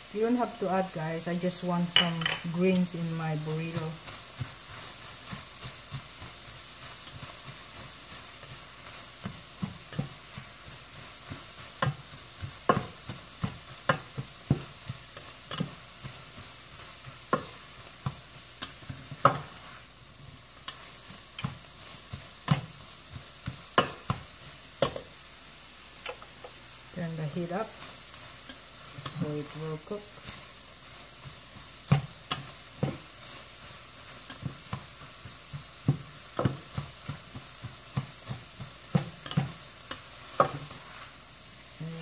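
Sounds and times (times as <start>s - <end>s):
food sizzling in a skillet: 0.0s - 42.0s
spatula knocking and scraping pan: 1.4s - 25.2s, 26.0s - 41.2s.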